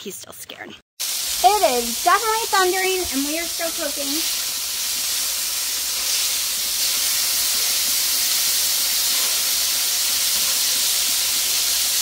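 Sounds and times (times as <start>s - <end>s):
patties sizzling on a griddle: 1.0s - 12.0s.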